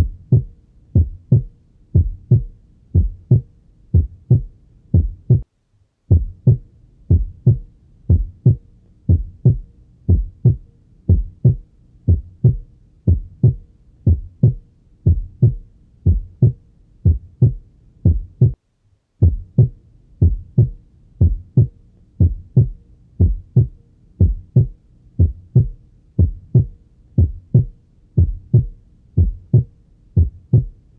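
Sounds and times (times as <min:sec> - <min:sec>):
heartbeat lub-dub thumps: 0:00.0 - 0:05.5, 0:06.1 - 0:18.6, 0:19.2 - 0:30.8.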